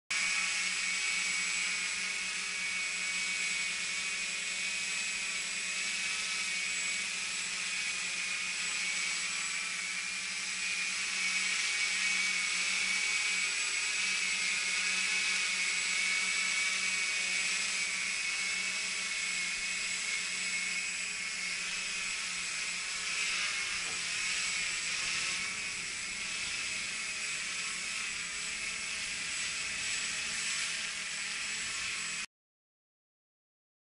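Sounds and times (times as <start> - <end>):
quadcopter motors whining: 0.1 - 32.3.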